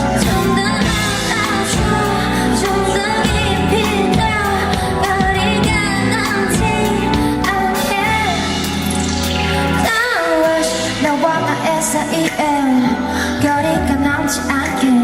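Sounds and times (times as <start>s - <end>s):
pop song with sung vocals: 0.0s - 15.0s.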